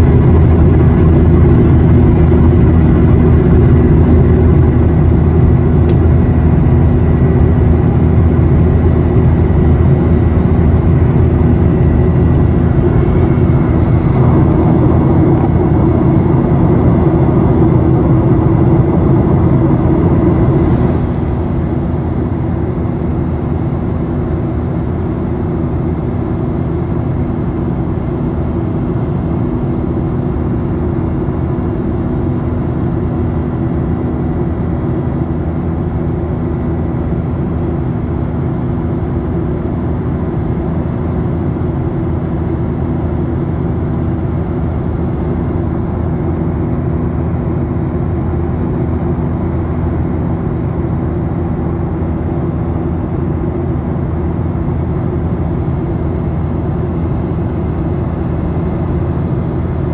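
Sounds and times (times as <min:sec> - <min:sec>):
jet engines and airflow rushing: 0:00.0 - 0:59.9
steady cabin hum: 0:00.0 - 0:59.9.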